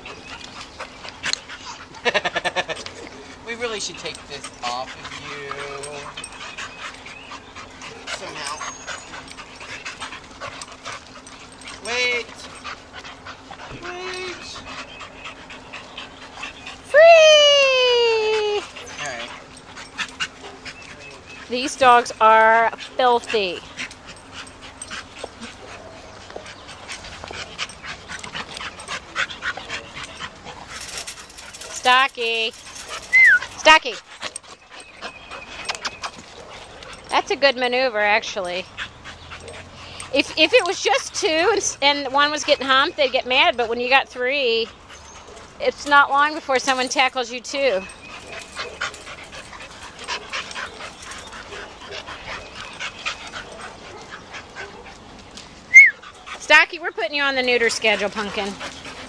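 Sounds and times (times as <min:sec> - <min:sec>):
dogs panting: 0:00.0 - 0:59.0
dogs scuffling: 0:00.0 - 0:59.0.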